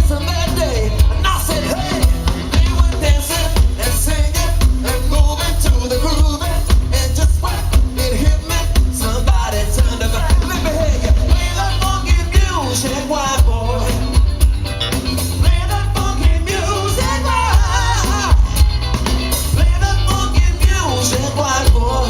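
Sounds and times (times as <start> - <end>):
heavy bass line: 0.0 - 22.0
rock band playing: 0.0 - 22.0
singer: 0.0 - 22.0
steady drum beat: 0.0 - 22.0.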